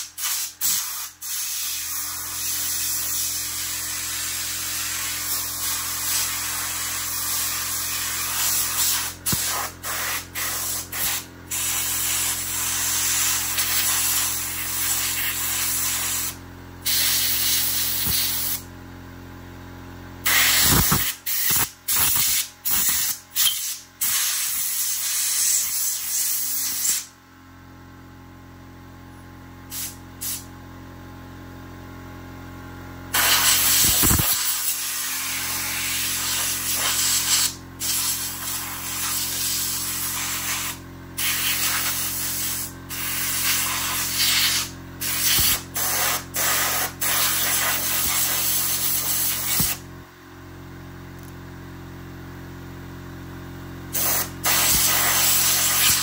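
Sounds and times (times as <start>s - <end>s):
air blow gun hissing: 0.0s - 18.7s, 20.2s - 27.1s, 29.7s - 30.5s, 33.1s - 49.8s, 53.9s - 56.0s.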